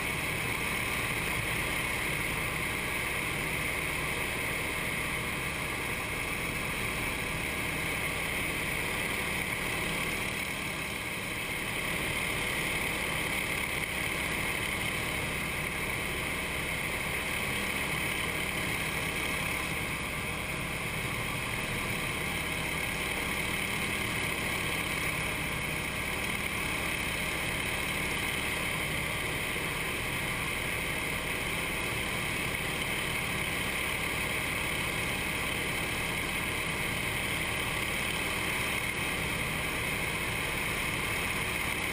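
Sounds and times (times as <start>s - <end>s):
radial aircraft engine and propeller: 0.0s - 41.9s.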